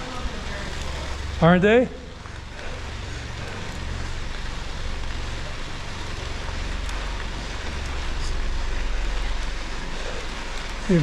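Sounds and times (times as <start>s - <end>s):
bicycle tyres rolling on trail: 0.0s - 11.0s.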